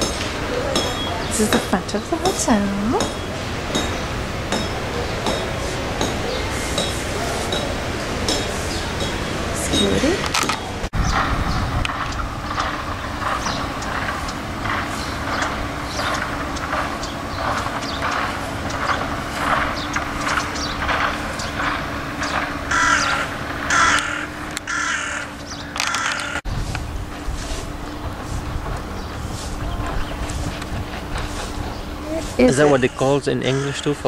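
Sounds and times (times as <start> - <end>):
birds calling: 0.0 - 34.0
steady low hum: 0.0 - 34.0.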